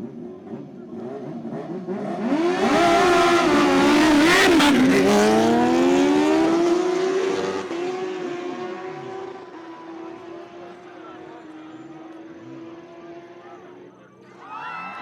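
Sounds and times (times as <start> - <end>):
motorbike engines revving: 0.0 - 14.1.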